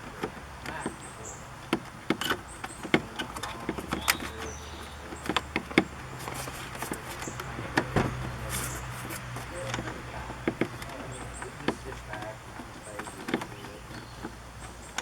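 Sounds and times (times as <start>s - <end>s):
plastic parts clicking and knocking: 0.0s - 15.0s.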